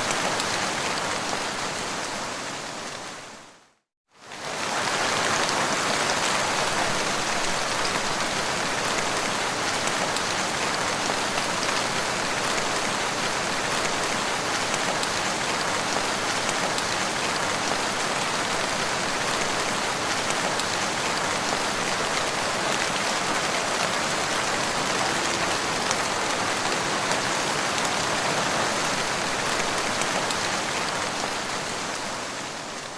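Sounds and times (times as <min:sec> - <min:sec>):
rain falling on ground: 0:00.0 - 0:32.9.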